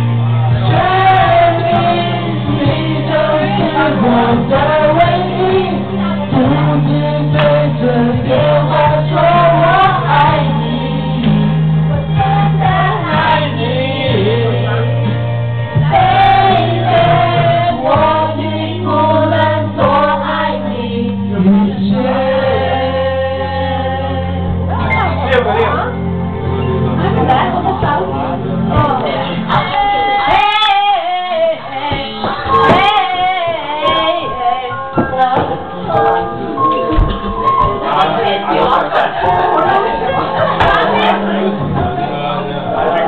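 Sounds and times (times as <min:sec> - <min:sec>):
backing track with bass line: 0:00.0 - 0:43.0
people singing karaoke: 0:00.0 - 0:43.0.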